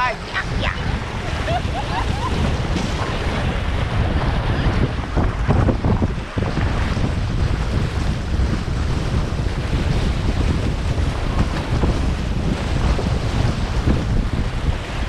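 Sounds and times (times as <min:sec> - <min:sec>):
seawater churning and splashing: 0:00.0 - 0:15.0
wind buffeting microphone: 0:00.0 - 0:15.0.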